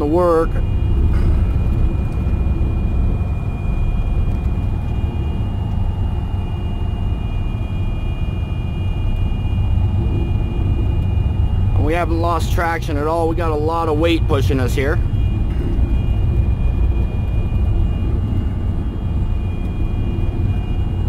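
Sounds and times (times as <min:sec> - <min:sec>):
diesel truck engine rumble: 0:00.0 - 0:21.0
thin high whine: 0:00.0 - 0:21.0.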